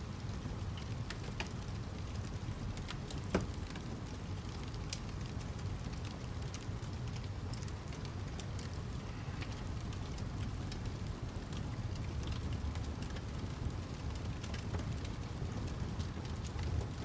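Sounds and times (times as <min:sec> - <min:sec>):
wood fire crackling: 0:03.4 - 0:17.0.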